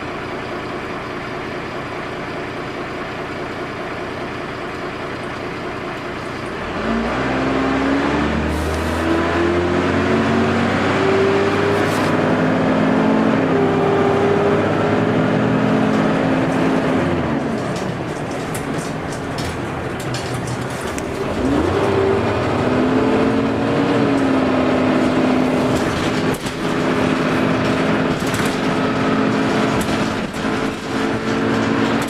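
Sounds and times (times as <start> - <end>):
bus engine accelerating: 0.0 - 32.0.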